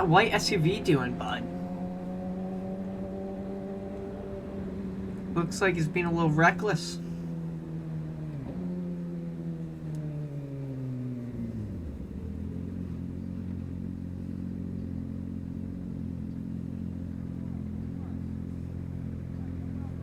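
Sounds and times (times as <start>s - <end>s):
motorcycle engine slowing and idling: 0.0s - 20.0s.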